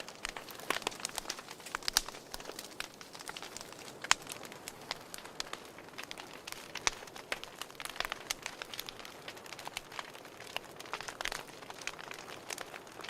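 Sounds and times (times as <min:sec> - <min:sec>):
fireplace crackling: 0:00.0 - 0:13.0.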